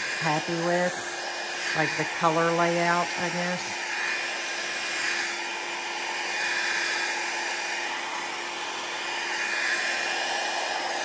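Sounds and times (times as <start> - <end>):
hair dryer blowing air: 0.0 - 11.0.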